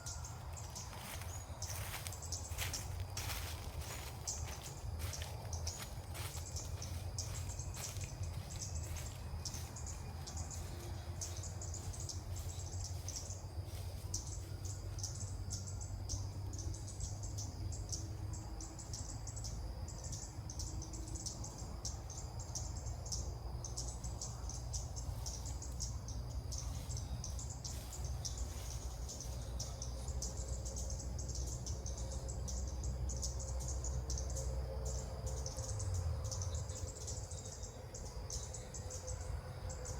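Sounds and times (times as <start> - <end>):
insects chirring: 0.0 - 39.9
low steady rumble: 0.0 - 39.9.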